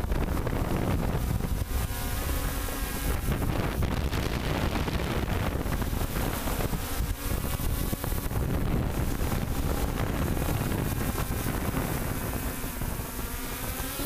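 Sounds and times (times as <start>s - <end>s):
drone propellers running: 0.0s - 14.0s
steady motor whine: 0.0s - 14.0s
wind buffeting microphone: 0.0s - 14.0s.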